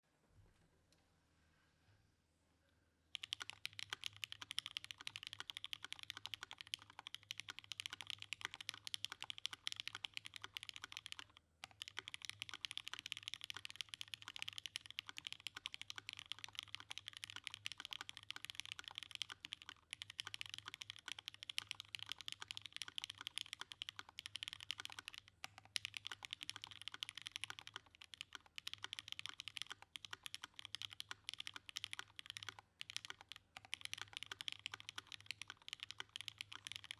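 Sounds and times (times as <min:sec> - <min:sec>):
fast mechanical keyboard typing: 0:03.2 - 0:36.9.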